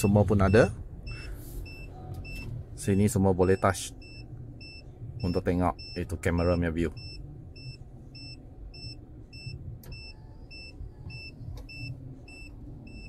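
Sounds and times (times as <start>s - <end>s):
low engine hum: 0.0s - 13.0s
parking sensor beeping: 0.0s - 13.0s.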